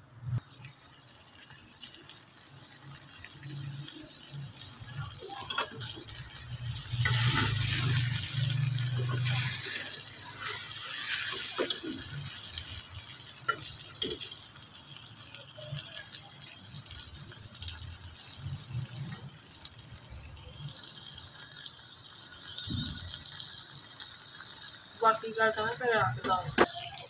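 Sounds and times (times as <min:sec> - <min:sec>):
vegetables sizzling in oil: 0:00.0 - 0:27.0.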